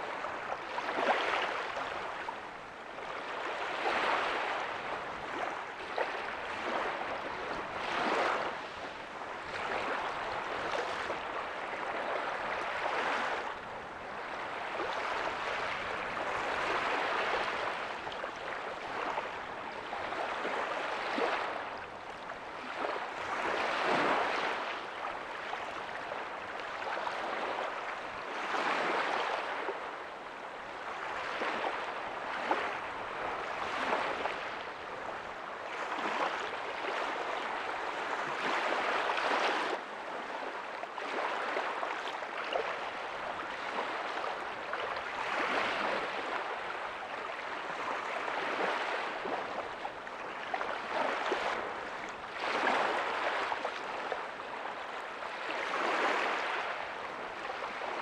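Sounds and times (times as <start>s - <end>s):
small waves washing up beach: 0.0s - 58.0s.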